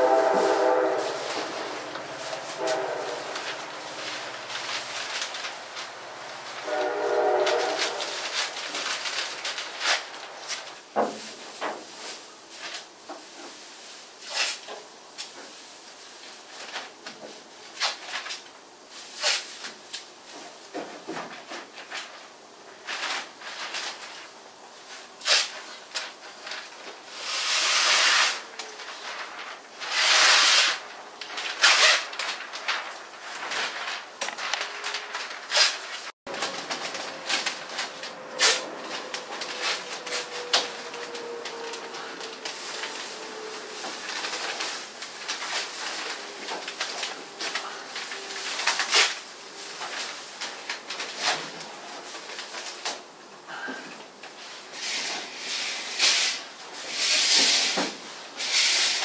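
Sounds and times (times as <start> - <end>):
paper and plastic crinkling: 0.0 - 27.2, 28.3 - 30.0, 30.6 - 53.6.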